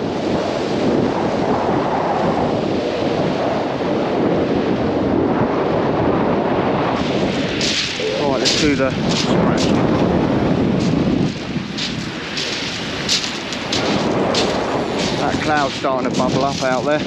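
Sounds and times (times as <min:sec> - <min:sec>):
surf washing on shingle: 0:00.0 - 0:04.7, 0:06.7 - 0:17.0
wind buffeting microphone: 0:00.0 - 0:17.0.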